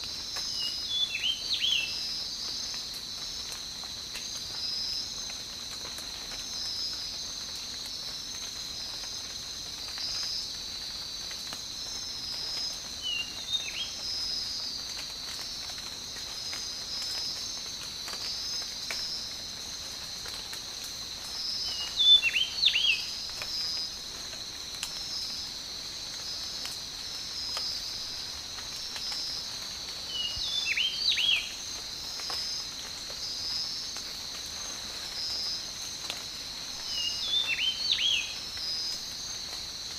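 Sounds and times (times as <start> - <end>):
insect chorus: 0.0 - 39.9
light rain patter: 0.0 - 39.9.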